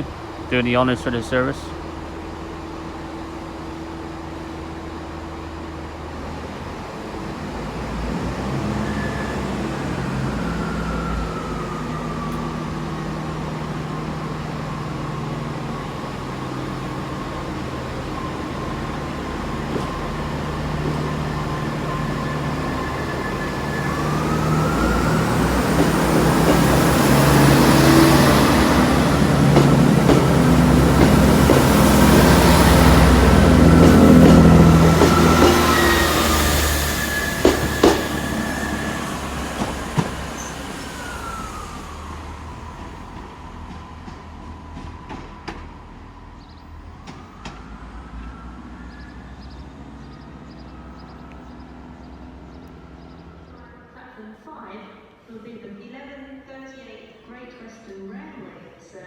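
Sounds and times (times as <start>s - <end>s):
traction whine: 0.0s - 53.8s
train rushing past: 0.0s - 53.9s
train diesel engines: 0.0s - 55.4s.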